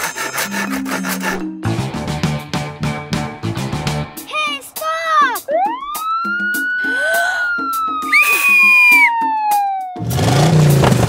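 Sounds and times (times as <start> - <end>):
background music with repeated notes: 0.4 - 11.0.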